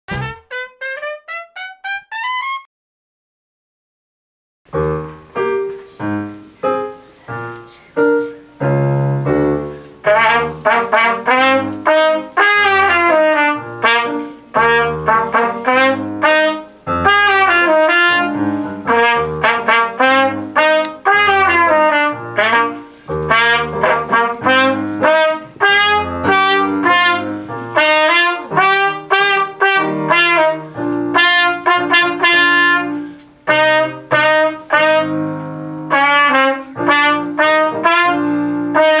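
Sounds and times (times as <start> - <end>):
piano accompaniment: 0.0 - 2.7, 4.7 - 39.0
trumpet melody: 0.0 - 2.7, 8.0 - 39.0.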